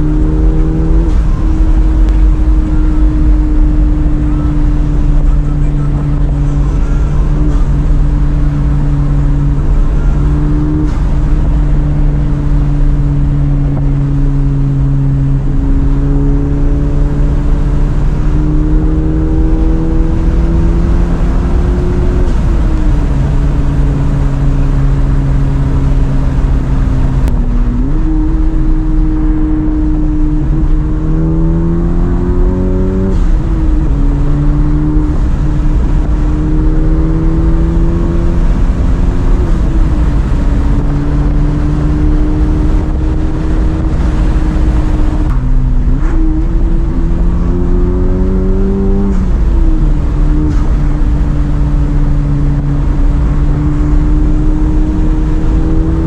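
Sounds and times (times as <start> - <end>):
car engine droning and revving: 0.0 - 56.0
road noise inside car: 0.0 - 56.0.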